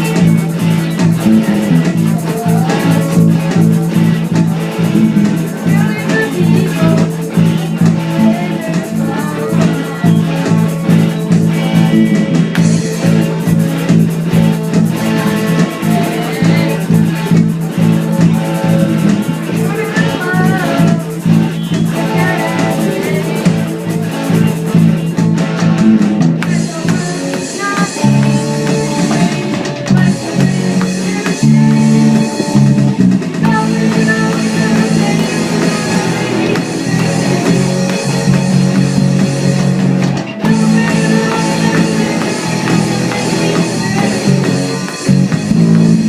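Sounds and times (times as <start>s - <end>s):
hard rock music: 0.0s - 46.0s.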